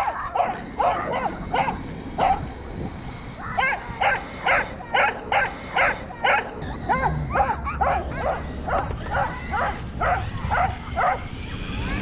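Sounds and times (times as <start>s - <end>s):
dog barking: 0.0s - 2.5s, 3.6s - 11.3s.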